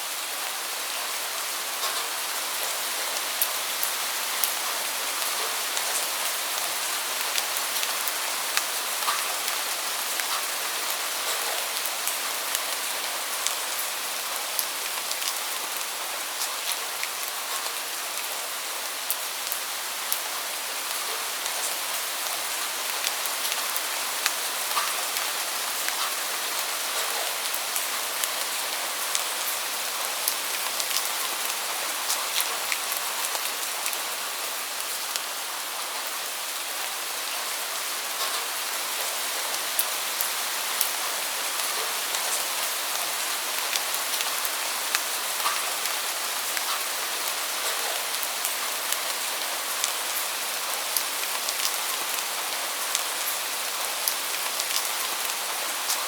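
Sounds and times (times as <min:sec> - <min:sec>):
steady rain hiss: 0:00.0 - 0:56.0
sharp ticks of raindrops: 0:00.2 - 0:56.0.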